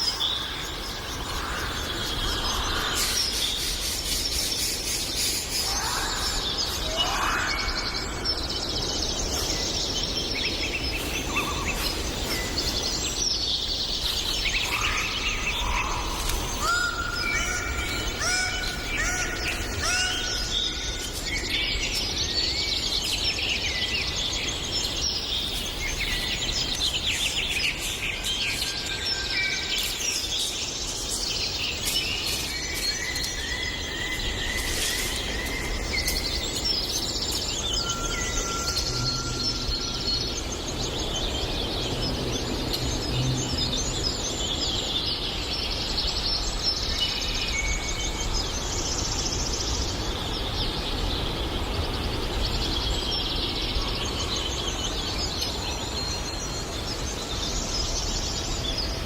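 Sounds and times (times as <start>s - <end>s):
birds singing and chirping: 0.0s - 59.0s.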